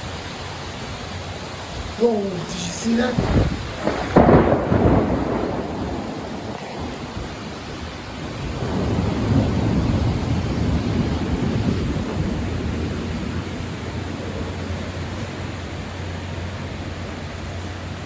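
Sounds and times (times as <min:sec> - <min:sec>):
heavy rain pouring: 0:00.0 - 0:18.0
low rumble of thunder: 0:03.1 - 0:18.0.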